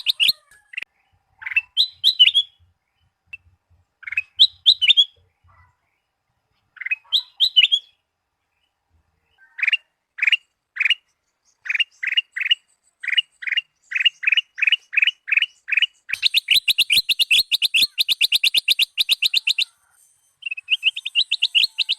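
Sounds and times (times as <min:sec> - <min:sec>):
bird chattering trill: 0:00.0 - 0:02.6, 0:04.0 - 0:05.7, 0:06.7 - 0:08.0, 0:09.4 - 0:21.9.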